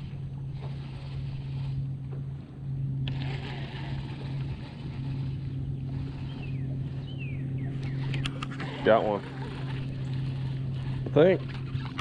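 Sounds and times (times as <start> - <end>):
electric trolling motor humming: 0.0 - 12.0.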